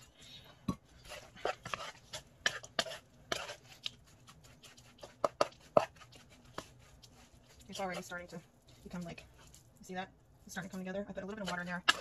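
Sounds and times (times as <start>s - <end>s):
fork stirring batter in bowl: 0.0s - 9.8s, 10.5s - 12.0s.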